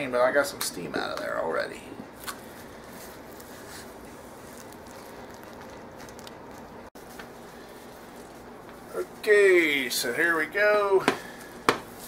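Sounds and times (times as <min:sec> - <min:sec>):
low steady room noise: 0:00.0 - 0:12.0.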